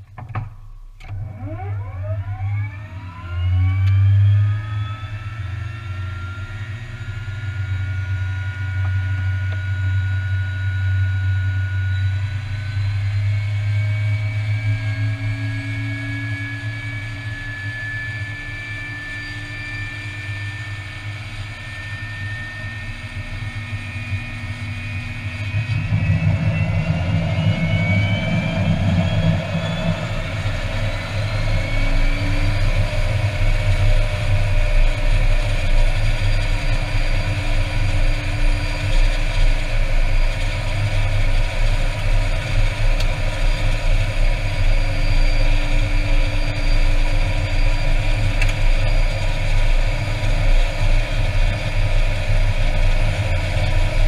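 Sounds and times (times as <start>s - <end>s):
deep propeller and engine drone: 0.0s - 54.0s
high turbine whine: 1.2s - 54.0s.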